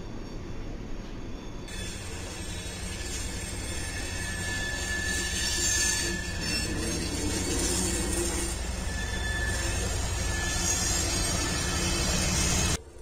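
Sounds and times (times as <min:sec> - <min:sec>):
freight train rumbling on rails: 0:00.0 - 0:13.0
high wheel squeal: 0:01.2 - 0:12.8.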